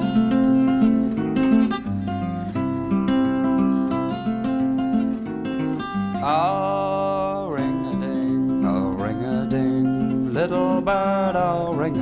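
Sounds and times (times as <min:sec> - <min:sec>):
acoustic guitar plucking: 0:00.0 - 0:12.0.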